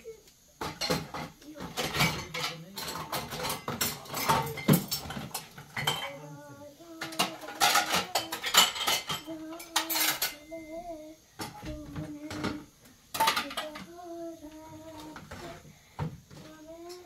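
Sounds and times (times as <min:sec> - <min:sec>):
utensils and dishes clattering: 0:00.6 - 0:10.7, 0:11.4 - 0:14.0, 0:14.7 - 0:17.0.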